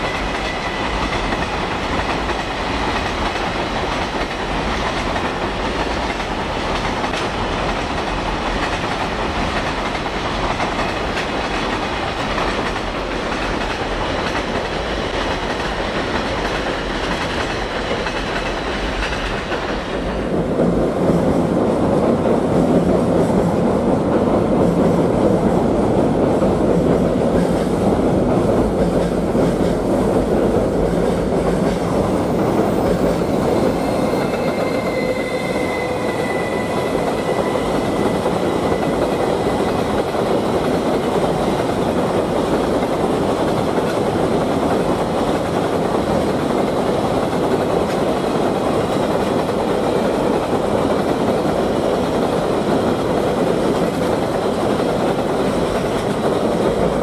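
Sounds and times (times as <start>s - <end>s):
train rumbling over bridge: 0.0s - 57.0s
train wheels clattering on rails: 0.0s - 57.0s.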